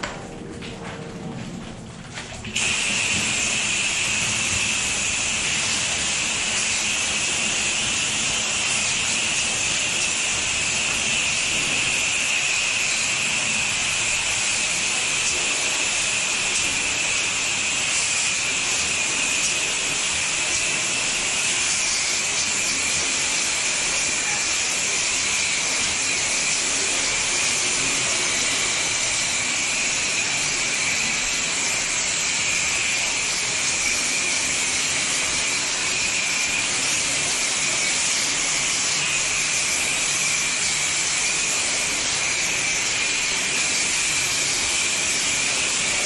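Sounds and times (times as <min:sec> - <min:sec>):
pressure washer spraying water: 0:02.5 - 0:46.0.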